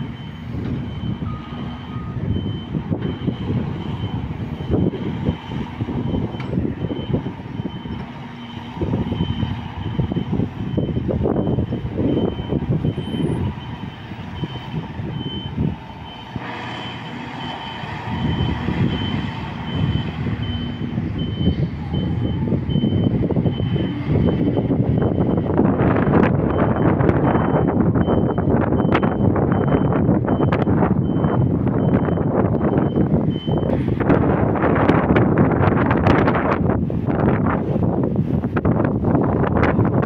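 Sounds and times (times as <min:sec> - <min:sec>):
reversing alarm beeping: 0:00.0 - 0:33.7
diesel machinery rumble: 0:00.0 - 0:40.0.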